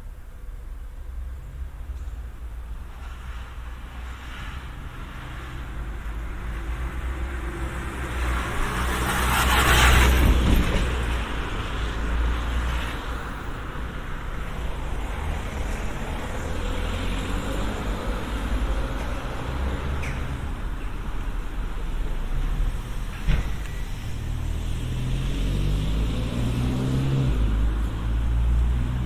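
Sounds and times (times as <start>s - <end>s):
street traffic hum: 0.0s - 29.0s
car passing close by: 3.0s - 20.8s, 22.3s - 29.0s.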